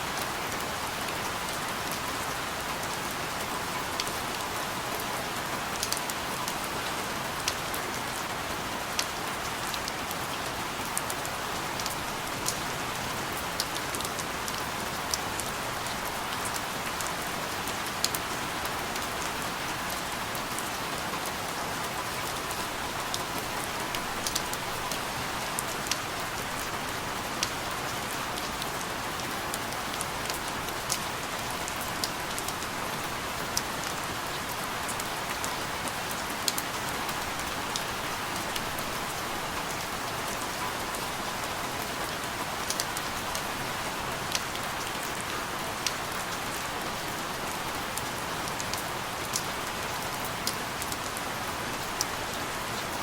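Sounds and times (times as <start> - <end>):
steady rain falling: 0.0 - 53.0
raindrops ticking on a surface: 0.1 - 53.0.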